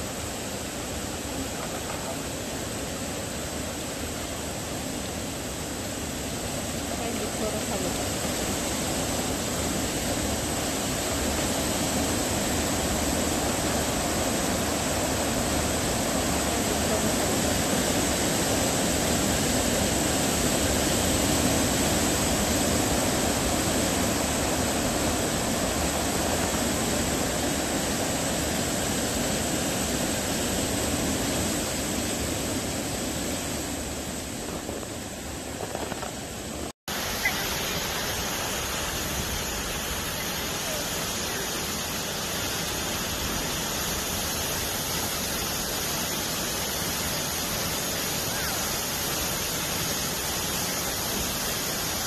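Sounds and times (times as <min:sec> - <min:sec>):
waterfall rushing: 0:00.0 - 0:35.6, 0:36.2 - 0:52.0.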